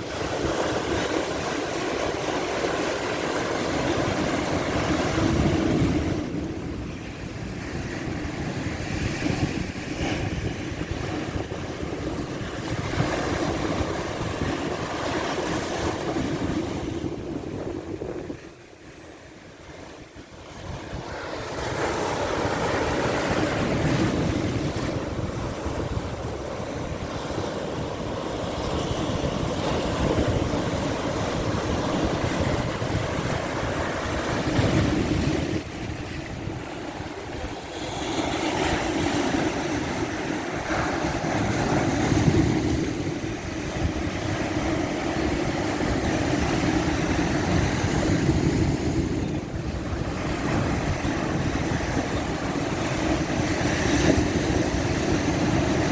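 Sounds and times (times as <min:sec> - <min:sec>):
ocean waves breaking: 0:00.0 - 0:55.9
wind rumbling on microphone: 0:00.0 - 0:55.9.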